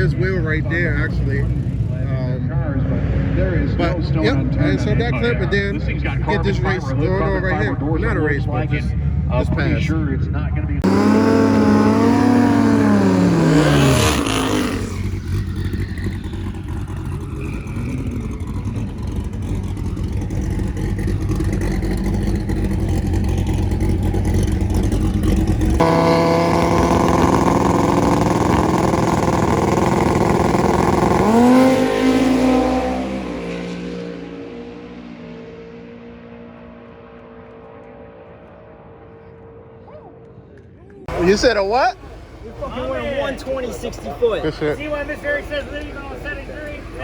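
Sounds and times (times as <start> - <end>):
drag car engine revving: 0.0 - 39.7, 41.0 - 47.0.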